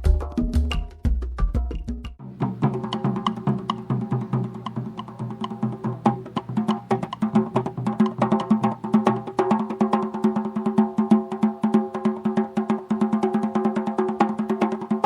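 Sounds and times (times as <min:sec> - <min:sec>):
rapid tapping percussion: 0:00.0 - 0:15.0.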